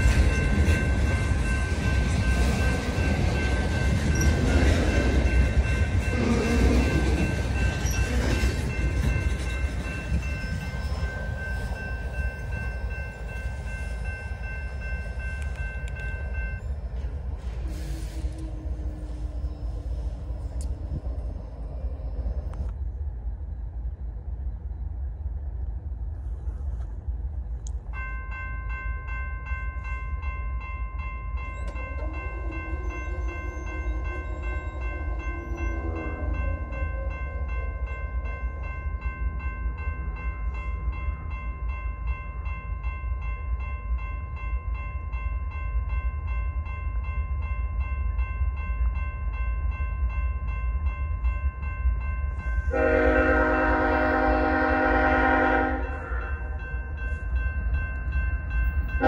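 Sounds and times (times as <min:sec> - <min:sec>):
crossing warning bell ringing: 0:00.0 - 0:22.6, 0:27.8 - 0:59.0.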